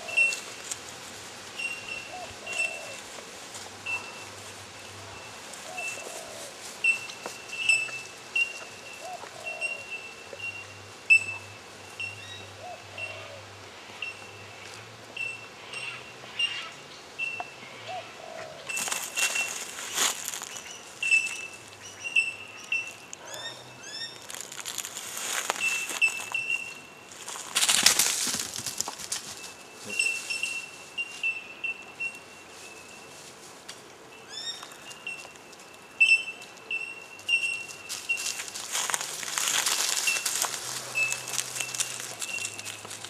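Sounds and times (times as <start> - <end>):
birds chirping: 0.0 - 0.6, 1.5 - 3.1, 3.8 - 27.6, 28.4 - 33.2, 34.1 - 43.0.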